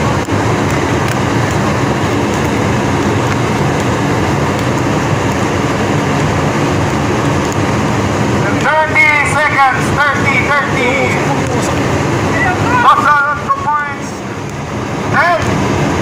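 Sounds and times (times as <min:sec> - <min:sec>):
ship machinery drone: 0:00.0 - 0:16.0.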